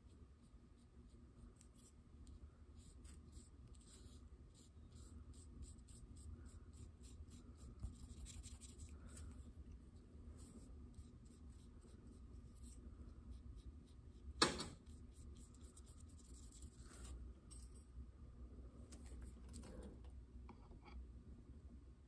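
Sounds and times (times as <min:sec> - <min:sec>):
low steady hum: 0:00.0 - 0:22.0
faint scratching and handling: 0:00.9 - 0:18.0, 0:18.7 - 0:21.0.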